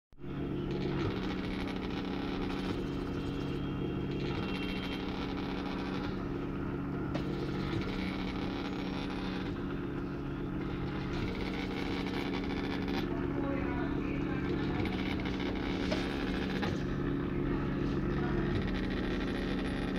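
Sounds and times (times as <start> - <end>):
print head motor whining: 0.2 - 19.9
printer motors and fan humming: 0.2 - 19.9.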